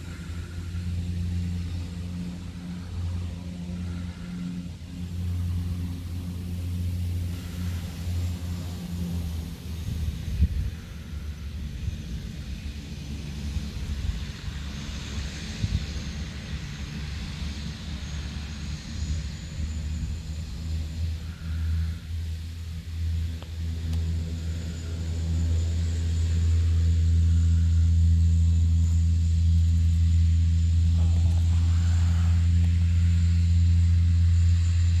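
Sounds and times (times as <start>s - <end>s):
propeller airplane engine drone: 0.0s - 35.0s.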